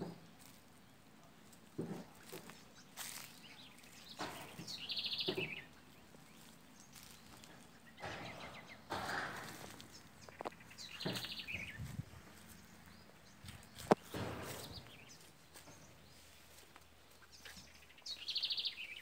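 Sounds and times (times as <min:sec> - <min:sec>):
footsteps in dry undergrowth: 0:00.1 - 0:19.0
rustling of leaves and twigs: 0:00.1 - 0:19.0.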